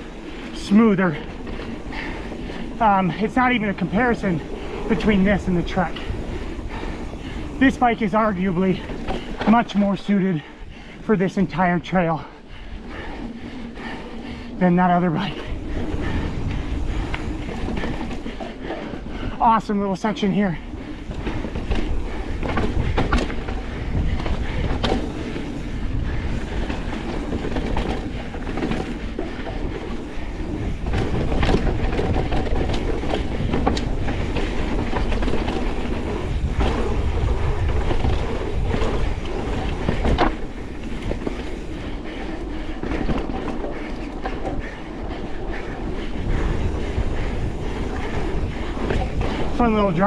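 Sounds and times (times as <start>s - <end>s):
bike tyres rolling over dirt and roots: 0.0s - 50.0s
wheels knocking on bumps: 0.0s - 50.0s.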